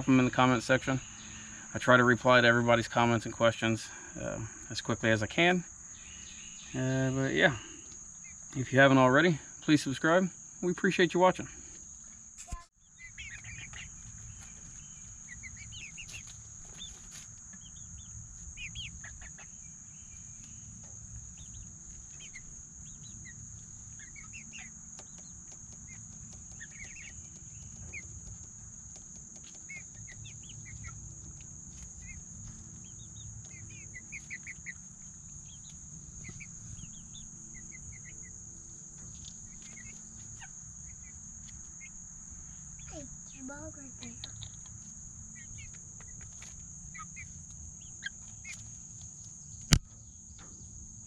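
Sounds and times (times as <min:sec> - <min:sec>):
chickens clucking: 0:00.0 - 0:49.8
crickets trilling: 0:00.0 - 0:51.0.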